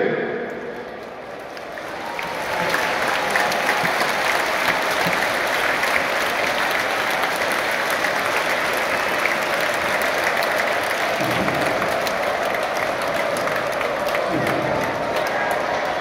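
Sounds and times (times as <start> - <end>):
stadium crowd applauding: 0.0 - 16.0.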